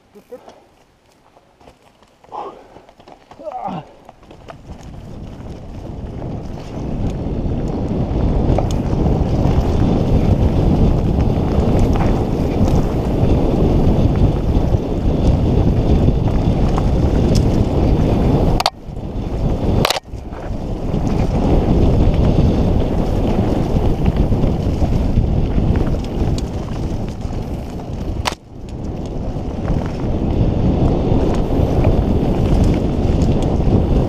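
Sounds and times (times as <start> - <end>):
bike rumbling on dirt trail: 0.0 - 34.0
wind rushing over microphone: 3.4 - 34.0.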